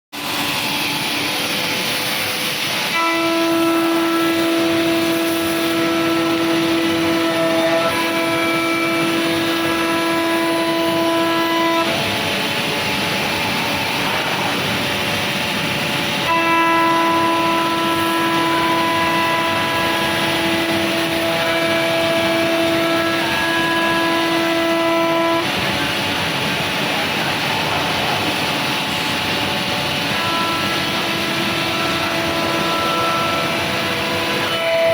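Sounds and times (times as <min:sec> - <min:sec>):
high spindle whine: 0:00.2 - 0:34.9
machining centre running: 0:00.2 - 0:34.9.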